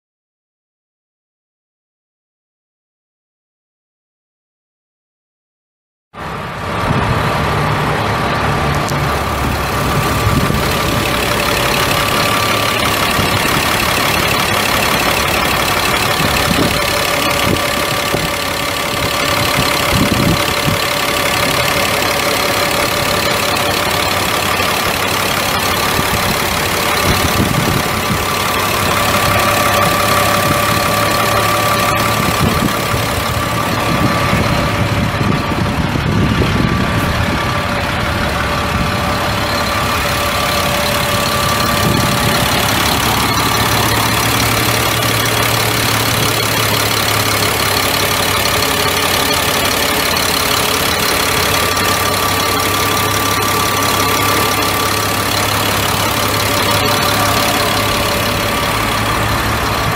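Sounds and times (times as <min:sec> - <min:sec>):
diesel truck engine idling: 0:06.2 - 0:59.9
thin steady whine: 0:09.1 - 0:35.8, 0:37.0 - 0:59.9.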